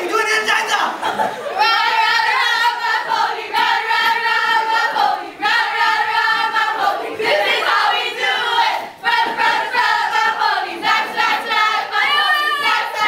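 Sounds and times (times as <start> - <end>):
group chanting in unison: 1.4 - 13.0.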